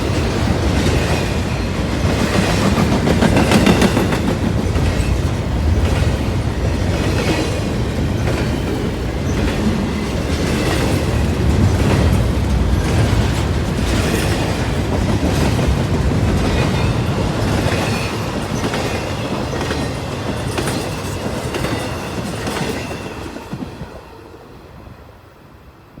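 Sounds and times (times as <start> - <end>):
train wheels clickety-clack: 0.0 - 24.1.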